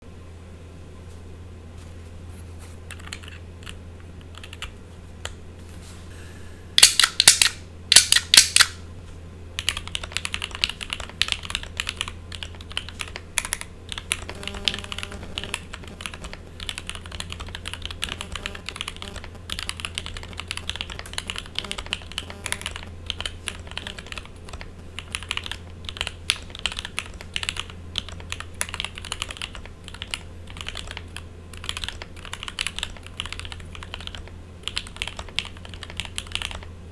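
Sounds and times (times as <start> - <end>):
steady low buzz: 0.0 - 35.6
mechanical keyboard typing: 2.9 - 5.4, 6.8 - 8.8, 9.6 - 36.7.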